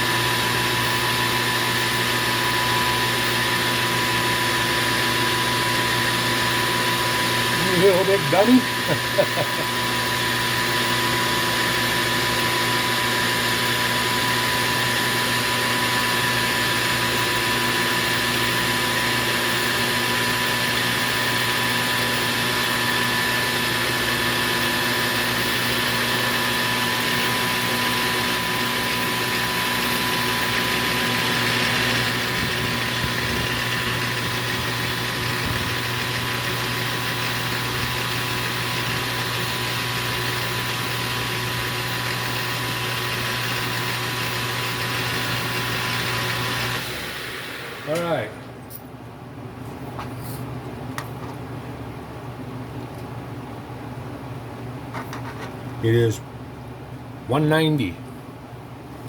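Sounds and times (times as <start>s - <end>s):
metal lathe humming: 0.0s - 48.3s.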